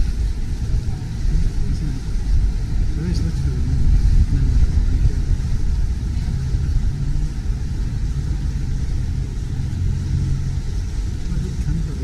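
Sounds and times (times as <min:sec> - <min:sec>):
motorboat engines rumbling: 0:00.0 - 0:12.0.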